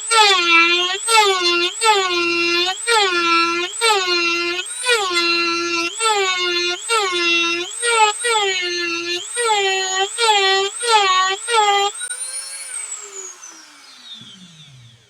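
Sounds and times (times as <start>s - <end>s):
rotary tool grinding whine: 0.0s - 15.0s.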